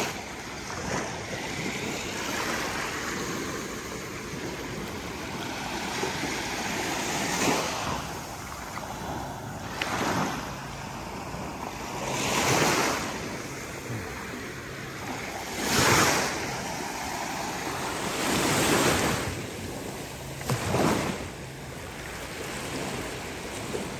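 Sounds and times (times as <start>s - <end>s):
small waves washing onto sand: 0.0s - 23.9s.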